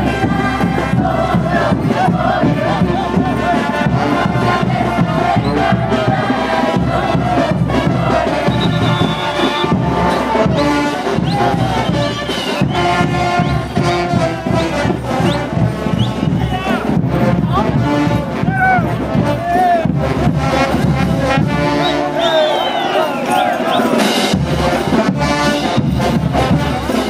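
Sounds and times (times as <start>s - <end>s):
brass band playing: 0.0s - 27.0s
crowd voices: 0.0s - 27.0s
steady drum beat: 0.0s - 27.0s.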